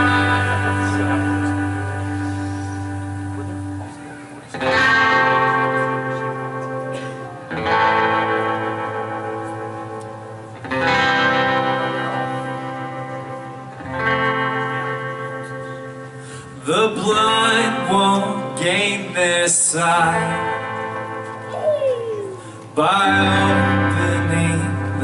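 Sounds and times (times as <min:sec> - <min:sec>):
guitar chords with reverb: 0:00.0 - 0:25.0.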